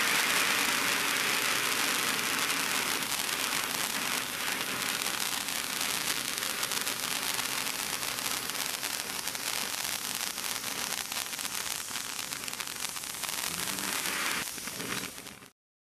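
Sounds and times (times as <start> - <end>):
firework fountain hissing and crackling: 0.0 - 15.6.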